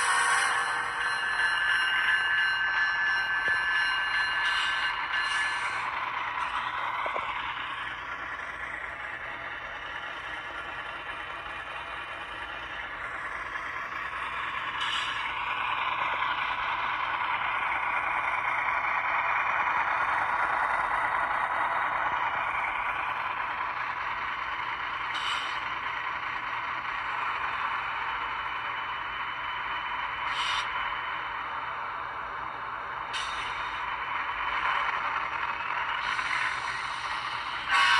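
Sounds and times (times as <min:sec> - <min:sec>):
model train rattling on track: 0:00.0 - 0:37.9.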